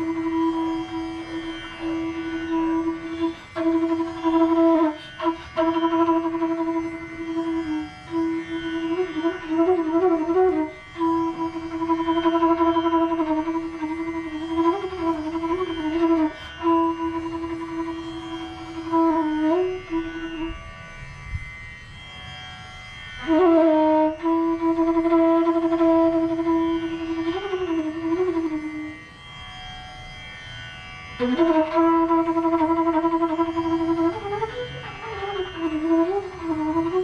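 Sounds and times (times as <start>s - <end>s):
bamboo flute playing slow phrases: 0.0s - 20.7s, 23.2s - 29.1s, 31.2s - 37.0s
faint steady drone: 0.0s - 37.0s.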